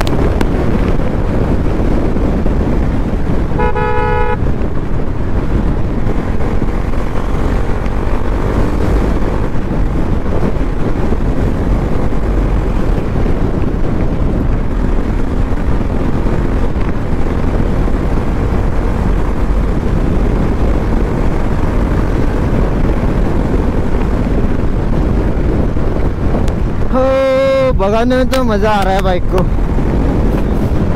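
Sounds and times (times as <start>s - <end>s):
motorcycle engine running: 0.0s - 27.7s
wind noise on microphone: 0.0s - 30.9s.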